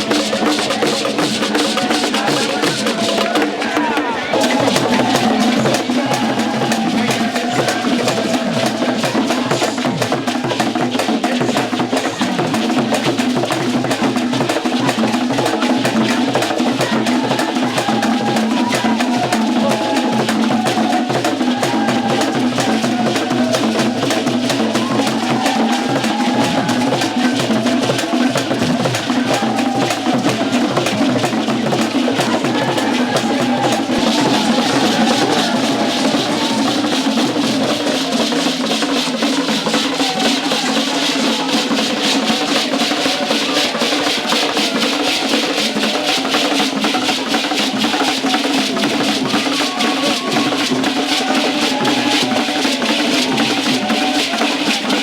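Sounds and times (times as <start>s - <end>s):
fast drumming: 0.0s - 55.0s.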